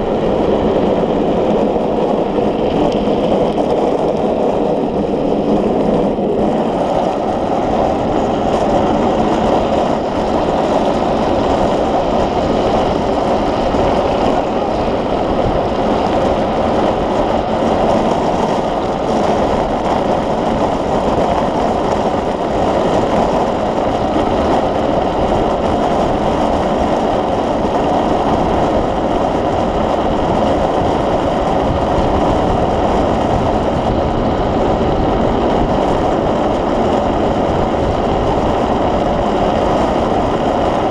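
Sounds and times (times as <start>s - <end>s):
wheels rolling over asphalt: 0.0s - 40.9s
wind rushing on camera: 0.0s - 40.9s.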